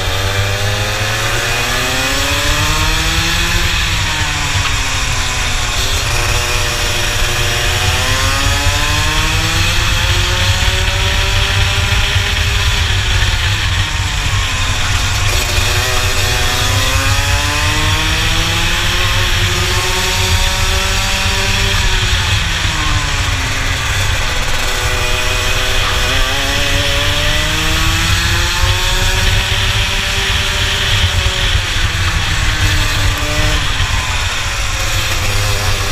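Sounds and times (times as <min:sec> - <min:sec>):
kart engine revving: 0:00.0 - 0:35.9.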